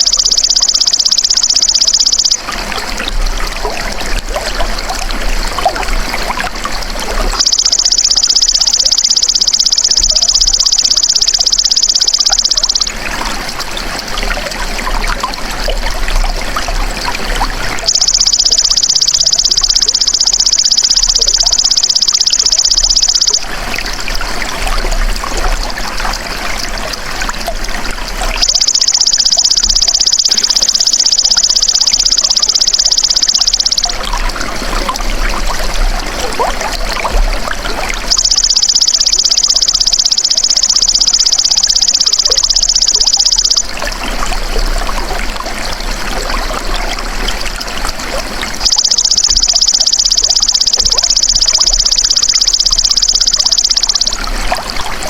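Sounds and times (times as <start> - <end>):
trickle of running water: 0.0 - 55.0.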